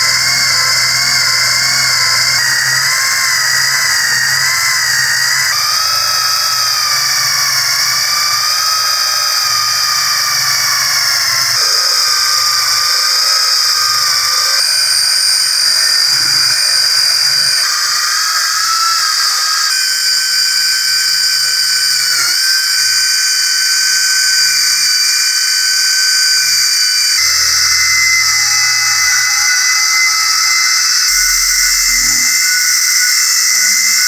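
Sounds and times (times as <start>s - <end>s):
power tool high-pitched whine: 0.0s - 34.0s.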